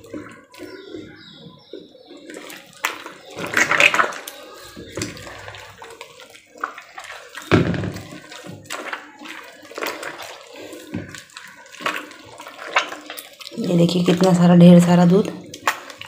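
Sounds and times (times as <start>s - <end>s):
wet squelching and sloshing: 0.0s - 16.0s.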